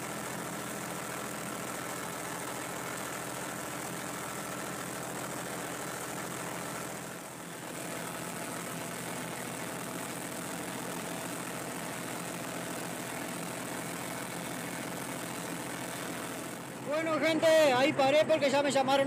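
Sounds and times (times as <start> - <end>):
tractor engine running: 0.0 - 18.2.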